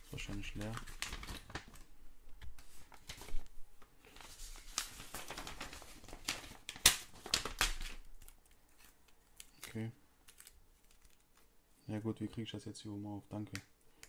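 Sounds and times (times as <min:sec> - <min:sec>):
paper rustling and crinkling: 0:00.0 - 0:11.5.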